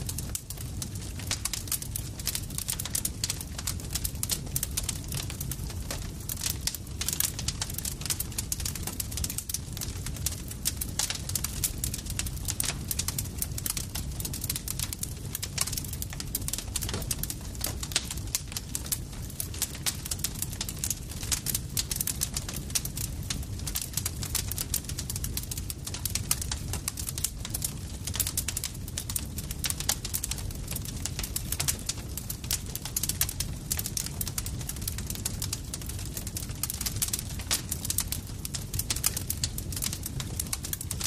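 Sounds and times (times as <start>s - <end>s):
campfire crackling: 0.0s - 41.0s
low rumble of burning wood: 0.0s - 41.0s.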